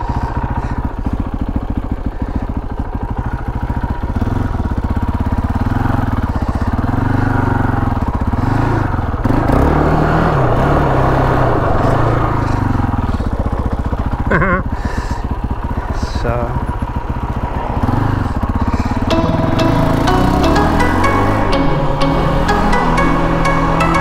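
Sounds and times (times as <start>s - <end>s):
quad bike engine revving: 0.0s - 24.0s.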